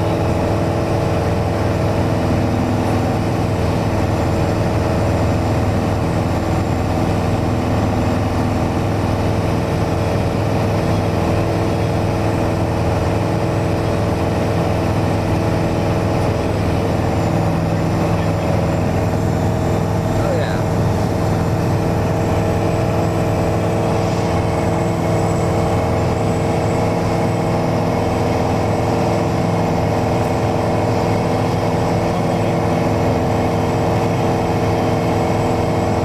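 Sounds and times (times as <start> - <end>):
propeller plane engine drone: 0.0 - 36.0.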